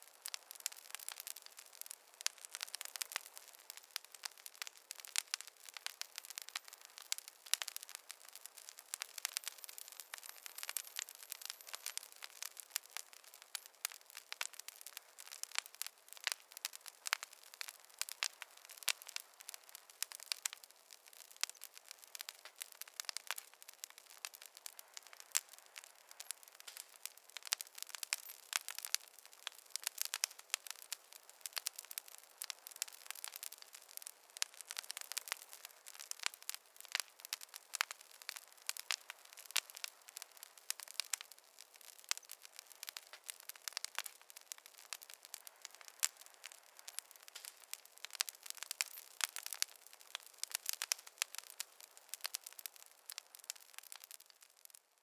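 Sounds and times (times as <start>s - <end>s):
campfire crackling and popping: 0.0s - 55.0s
faint hiss: 0.0s - 55.0s.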